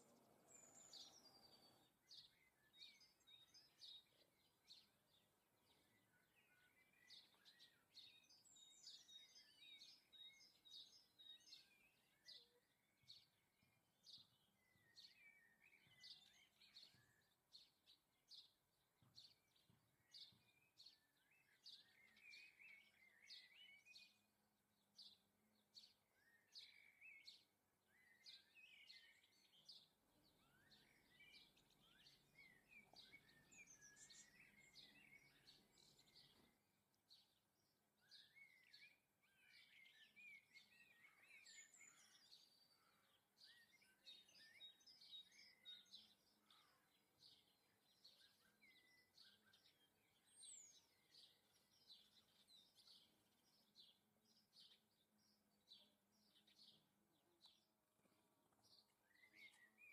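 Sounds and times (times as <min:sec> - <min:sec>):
birds chirping and twittering: 0:00.0 - 0:59.9.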